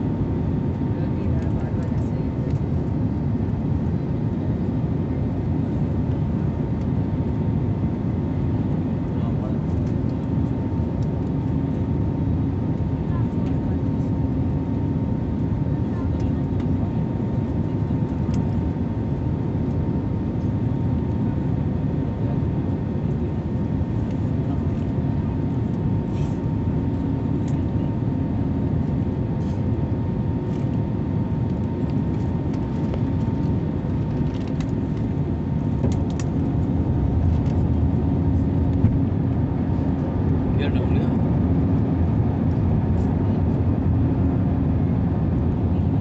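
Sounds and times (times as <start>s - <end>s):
aircraft engine roar: 0.0s - 46.0s.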